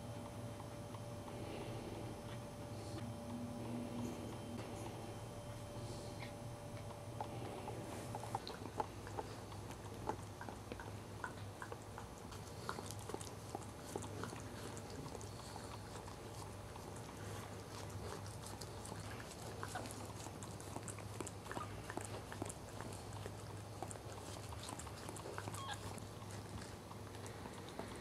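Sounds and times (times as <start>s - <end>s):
dog licking puppy: 0.0s - 28.0s
low steady hum: 0.0s - 28.0s.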